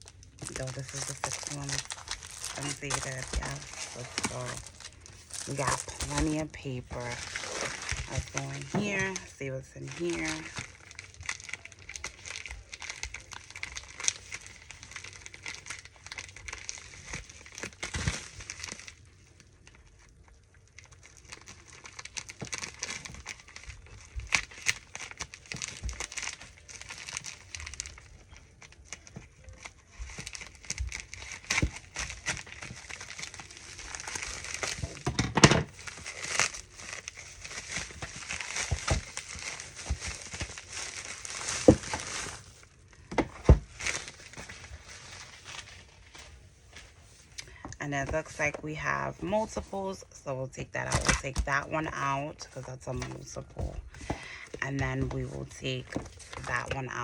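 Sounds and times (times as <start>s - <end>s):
plastic and paper crinkling: 0.0s - 57.0s.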